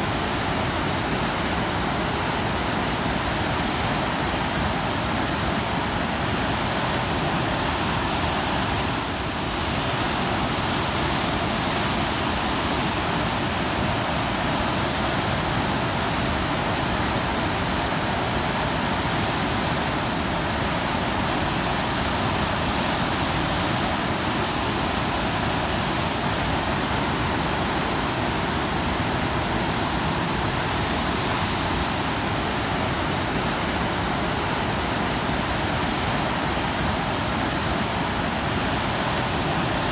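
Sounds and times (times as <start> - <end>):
floodwater rushing through sluice gates: 0.0 - 39.9.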